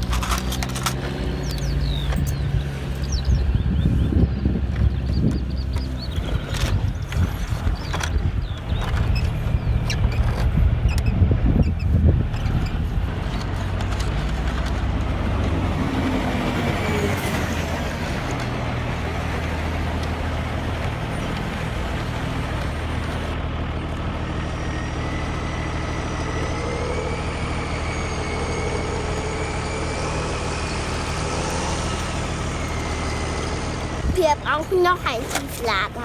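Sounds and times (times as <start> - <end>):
heavy truck engine running: 0.0 - 36.0.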